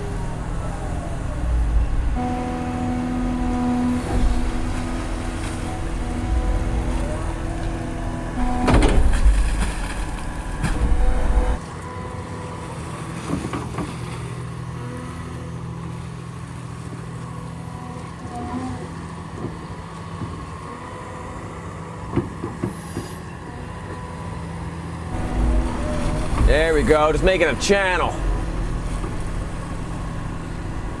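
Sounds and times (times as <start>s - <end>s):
excavator diesel engine rumbling: 0.0s - 31.0s
hydraulic whine: 0.0s - 31.0s.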